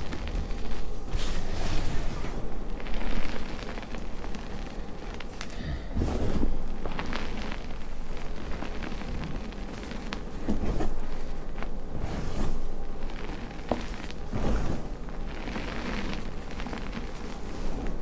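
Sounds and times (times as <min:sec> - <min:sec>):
chalk crunching: 0:00.0 - 0:18.0
chalk powder crackling and rustling: 0:00.0 - 0:18.0.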